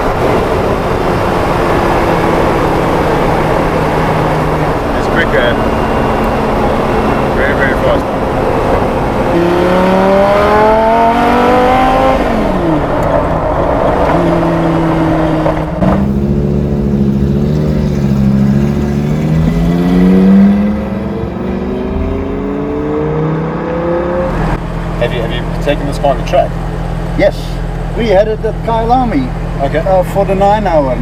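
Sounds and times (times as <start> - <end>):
engine accelerating through gears: 0.0 - 27.9.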